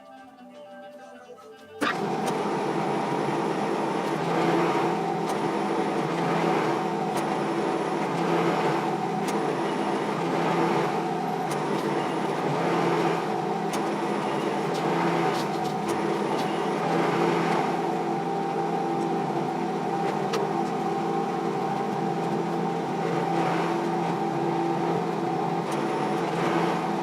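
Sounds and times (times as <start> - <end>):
metal lathe running: 1.8 - 27.0.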